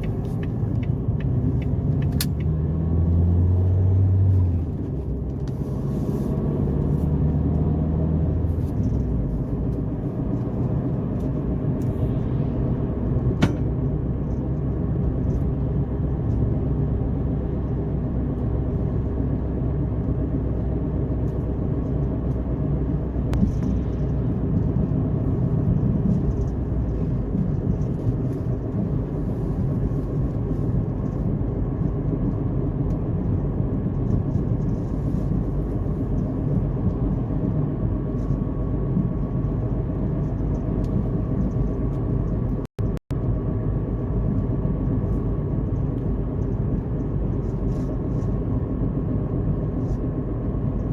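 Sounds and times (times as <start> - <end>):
car driving rumble: 0.0 - 50.9.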